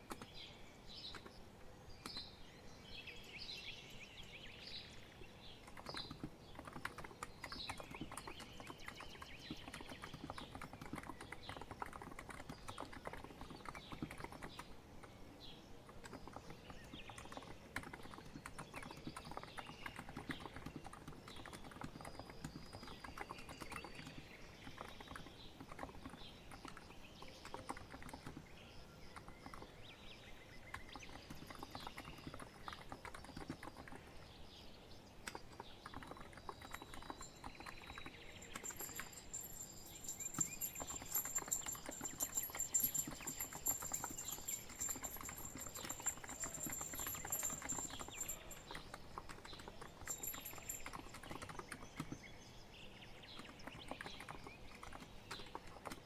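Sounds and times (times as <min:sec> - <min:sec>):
typing on keyboard: 0:00.0 - 0:00.4, 0:01.0 - 0:01.4, 0:05.6 - 0:29.9, 0:30.5 - 0:34.4, 0:35.0 - 0:56.0.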